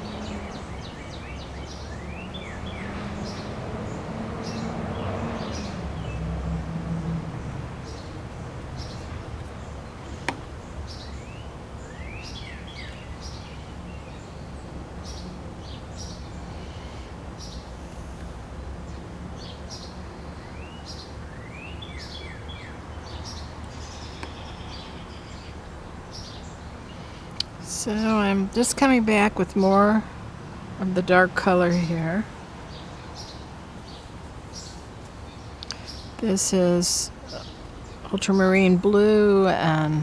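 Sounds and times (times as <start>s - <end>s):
small birds chirping: 0.0s - 6.3s, 7.3s - 30.0s, 30.8s - 40.0s.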